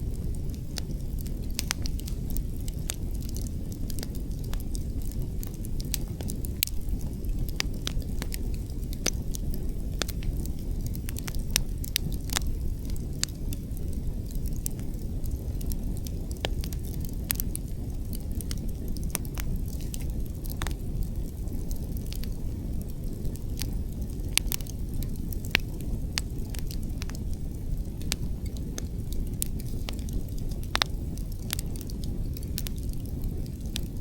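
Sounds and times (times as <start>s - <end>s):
low rumble of wind: 0.0s - 34.0s
wood fire crackling and popping: 0.0s - 34.0s.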